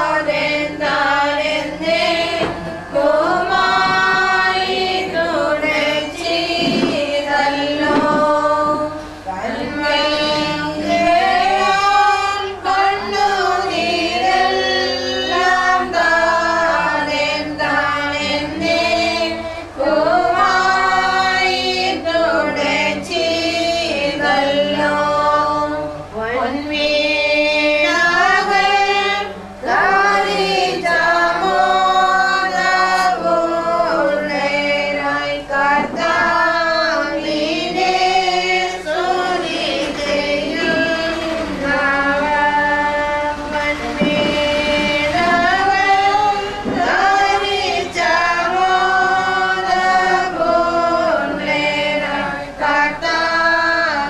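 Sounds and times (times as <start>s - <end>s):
group singing a hymn: 0.0s - 54.0s.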